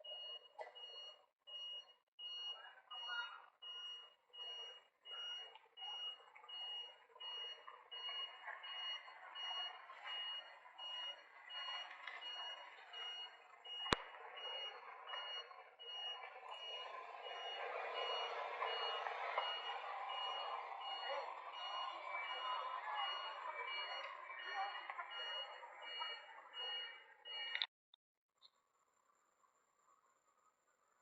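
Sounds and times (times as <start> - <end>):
reversing alarm beeping: 0.0 - 27.7.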